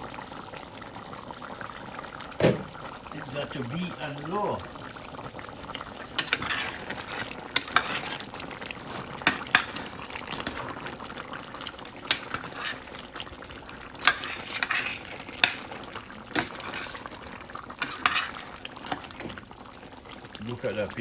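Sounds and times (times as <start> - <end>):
thick sauce bubbling: 0.0 - 21.0.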